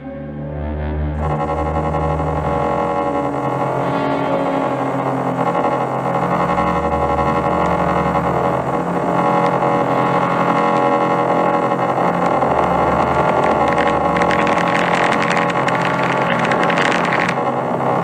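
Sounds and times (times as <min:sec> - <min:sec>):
engine-like drone: 0:00.0 - 0:18.0.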